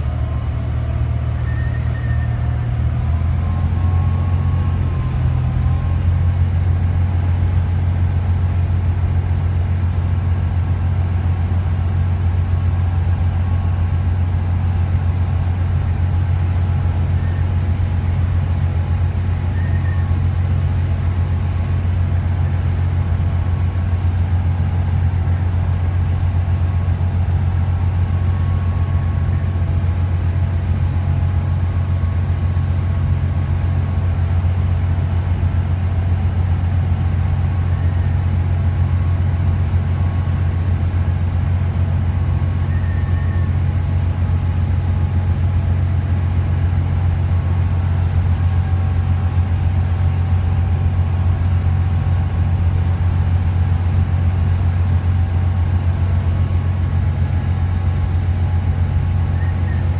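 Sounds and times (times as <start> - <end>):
ferry engines droning: 0.0 - 59.9.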